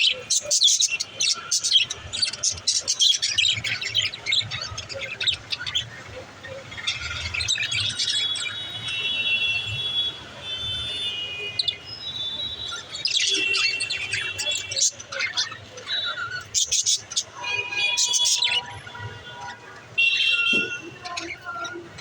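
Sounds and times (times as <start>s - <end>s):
budgerigars chirping and warbling: 0.0s - 22.0s.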